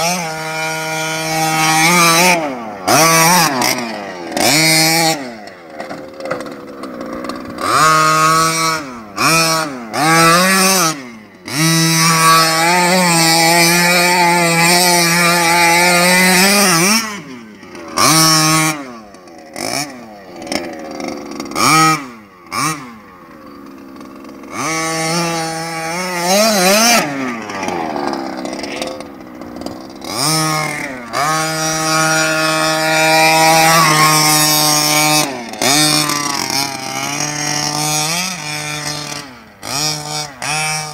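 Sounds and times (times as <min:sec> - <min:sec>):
small two-stroke engine revving: 0:00.0 - 0:40.9.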